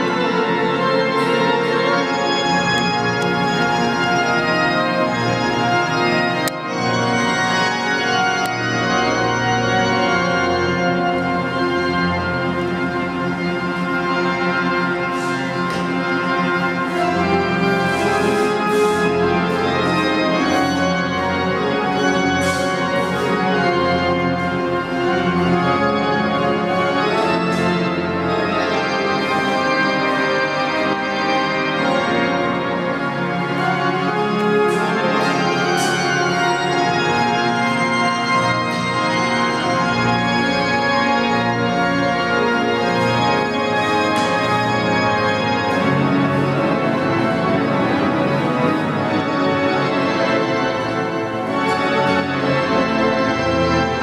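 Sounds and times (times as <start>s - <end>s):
pipe organ playing chords: 0.0s - 54.0s.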